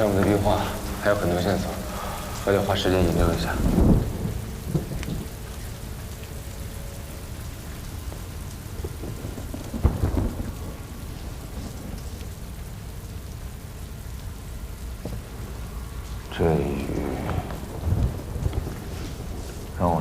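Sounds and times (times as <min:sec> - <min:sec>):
steady rain falling: 0:00.0 - 0:20.0
thunder clap rumbling: 0:00.0 - 0:20.0.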